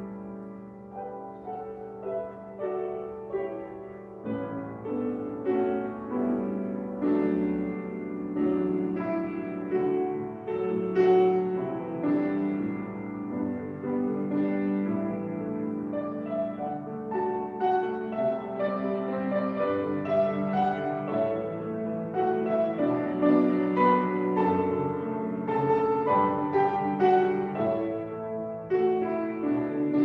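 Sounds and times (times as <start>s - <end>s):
solo piano: 0.0s - 30.0s.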